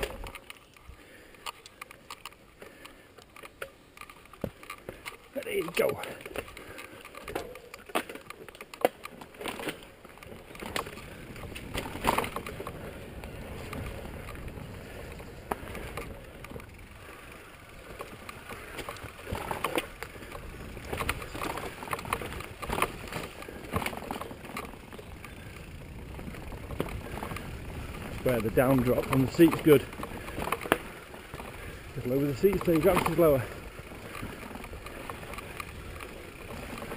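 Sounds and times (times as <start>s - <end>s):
bike knocking and rattling: 0.0s - 36.9s
bike tyres rumbling on dirt: 0.0s - 36.9s.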